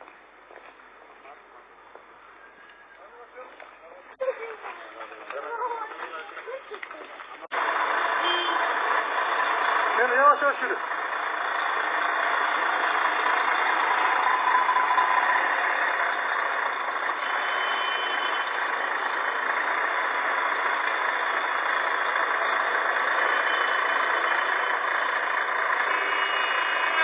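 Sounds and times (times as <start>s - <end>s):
vehicle engine and road noise: 0.0s - 27.0s.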